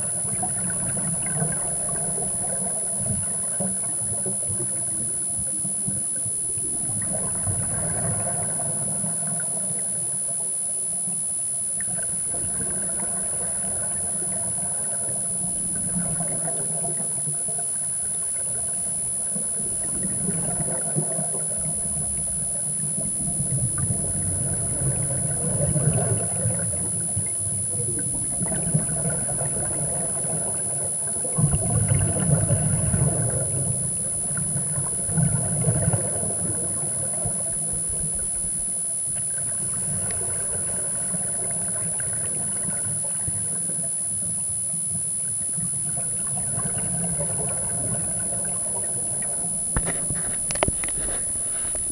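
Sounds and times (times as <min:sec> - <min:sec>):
scuba exhaust bubbles gurgling: 0:00.0 - 0:51.9
steady high-pitched whine: 0:00.0 - 0:51.9.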